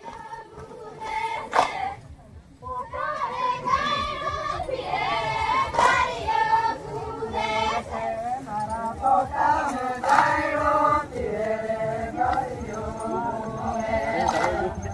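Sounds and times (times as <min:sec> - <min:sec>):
group singing a chant: 0:00.0 - 0:02.0, 0:02.6 - 0:14.9
steady low beat: 0:00.0 - 0:14.9.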